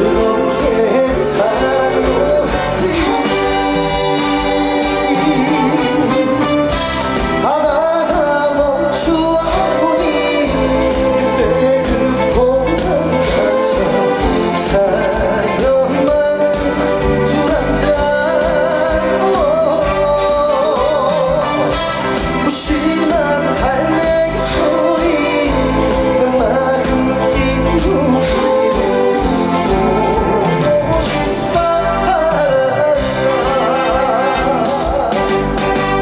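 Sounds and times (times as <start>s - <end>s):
live band with singer: 0.0s - 36.0s.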